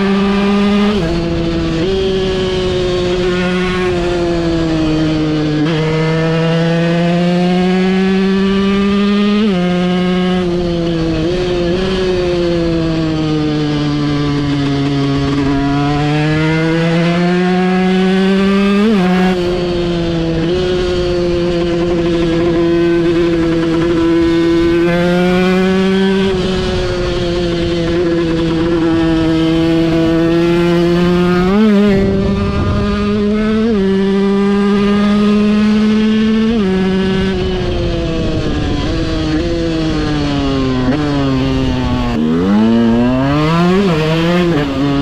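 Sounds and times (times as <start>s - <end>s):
small engine revving: 0.0s - 45.0s.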